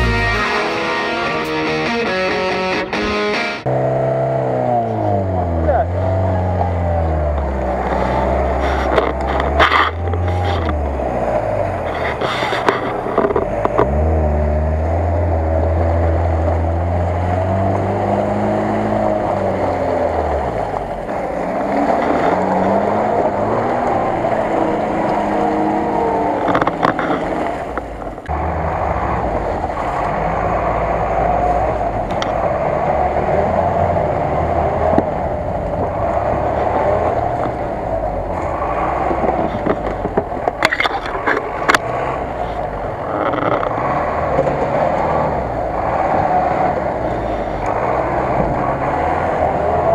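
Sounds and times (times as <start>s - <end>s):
off-road engines labouring: 0.0s - 49.9s
truck engine running under load: 5.7s - 49.9s.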